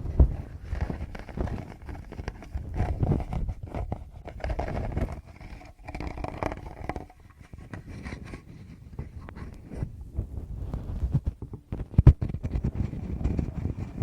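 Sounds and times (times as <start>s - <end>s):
fingers rubbing on microphone: 0.0s - 14.0s.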